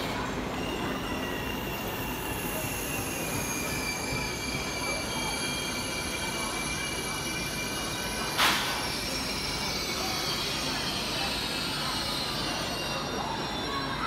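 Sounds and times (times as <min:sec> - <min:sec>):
train rolling slowly: 0:00.0 - 0:14.0
train wheels squealing: 0:00.0 - 0:14.0.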